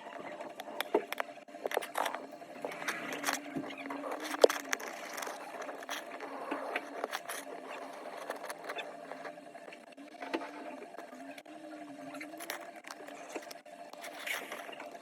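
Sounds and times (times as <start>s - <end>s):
faint steady hum: 0.0s - 15.0s
small tools clicking and scraping: 0.4s - 9.8s, 12.2s - 15.0s.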